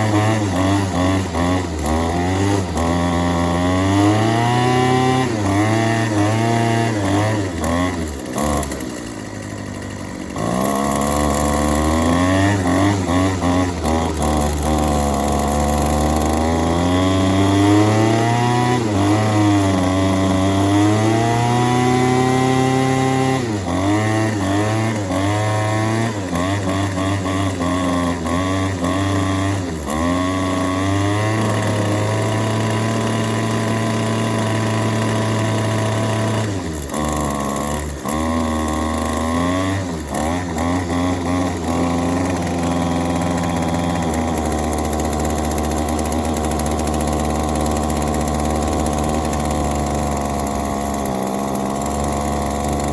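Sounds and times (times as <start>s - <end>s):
string trimmer engine revving: 0.0s - 52.9s.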